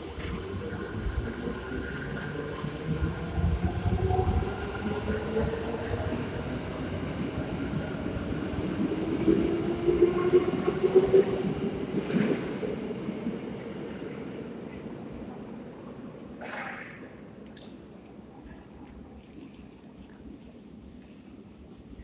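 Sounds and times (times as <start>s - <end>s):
metro train wheels rumbling on rails: 0.0s - 18.5s.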